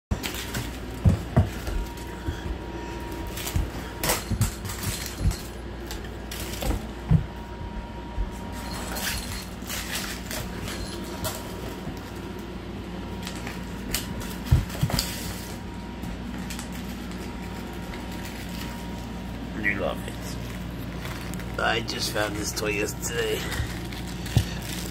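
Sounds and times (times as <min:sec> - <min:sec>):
faint steady hum: 0:00.1 - 0:24.9.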